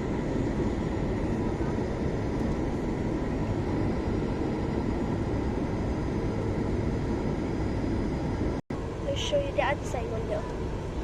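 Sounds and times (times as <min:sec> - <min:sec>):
airliner cabin engine rush: 0:00.0 - 0:11.0.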